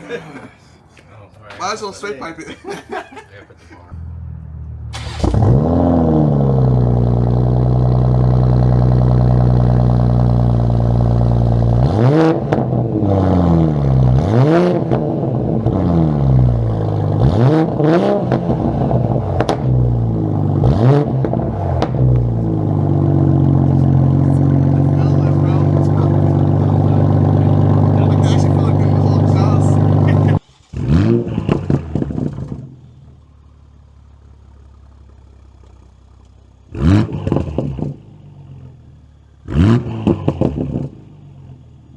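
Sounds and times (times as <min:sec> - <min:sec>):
car engine idling: 0:00.0 - 0:41.9
car engine starting: 0:03.6 - 0:41.9
engine throttle blips: 0:03.9 - 0:41.9.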